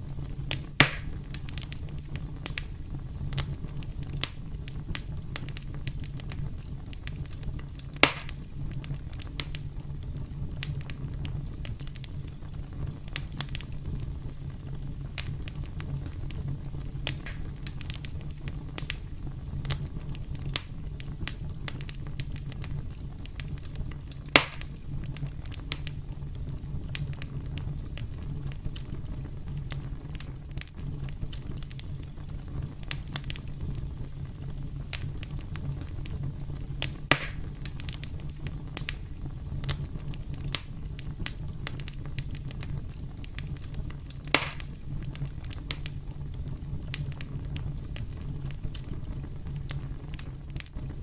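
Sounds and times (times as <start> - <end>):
campfire crackling: 0.0 - 51.0
fire popping: 0.0 - 51.0.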